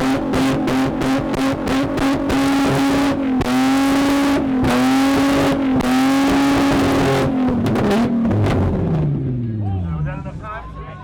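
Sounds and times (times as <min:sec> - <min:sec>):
car engine revving on limiter: 0:00.0 - 0:09.6
exhaust crackling pops: 0:00.0 - 0:09.6.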